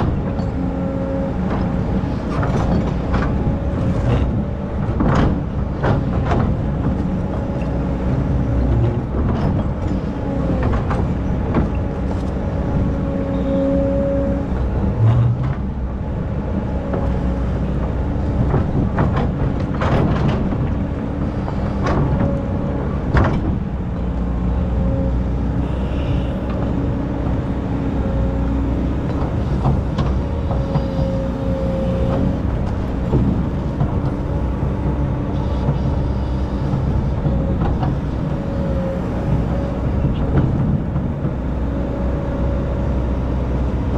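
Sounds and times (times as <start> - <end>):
engine whine: 0.0 - 43.9
excavator diesel engine running: 0.0 - 43.9.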